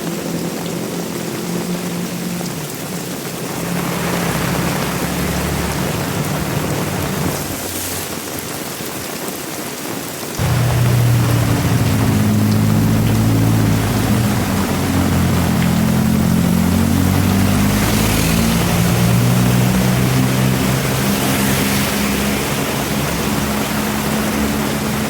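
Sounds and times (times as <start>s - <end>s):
engine humming: 0.0s - 7.7s, 10.4s - 25.0s
heavy rain falling: 0.0s - 25.0s.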